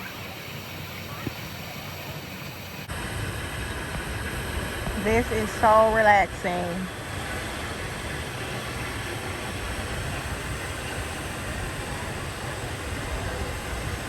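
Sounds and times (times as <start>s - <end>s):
wind noise on microphone: 1.1s - 14.0s.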